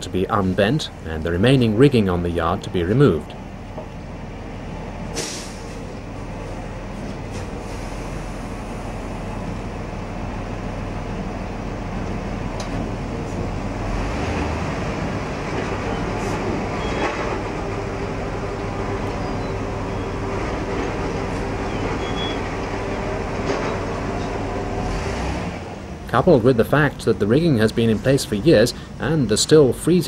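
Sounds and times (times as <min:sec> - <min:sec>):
heavy engine rumbling: 0:00.0 - 0:30.0.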